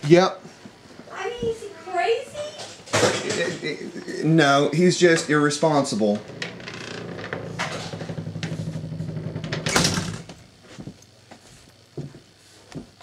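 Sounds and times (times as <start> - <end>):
mechanical hum with fast flutter: 0.0 - 13.0.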